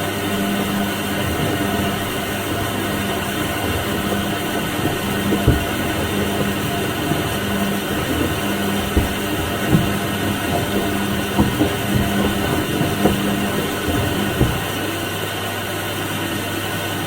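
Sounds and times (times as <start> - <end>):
washing machine churning: 0.0 - 15.4
soft thuds: 1.2 - 15.1.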